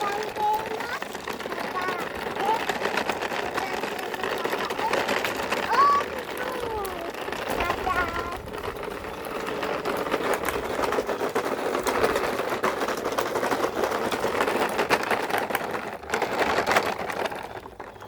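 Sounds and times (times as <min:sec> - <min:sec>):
rapid rattle of clicks: 0:00.0 - 0:18.0
toy motor and gears whirring: 0:00.0 - 0:18.0.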